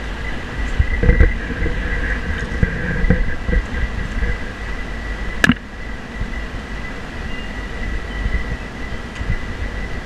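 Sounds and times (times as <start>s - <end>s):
distant traffic rumble: 0.0s - 10.0s.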